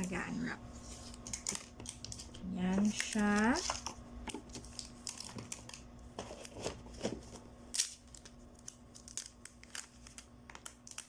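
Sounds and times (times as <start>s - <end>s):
plastic wrapping crinkling: 1.1s - 11.0s.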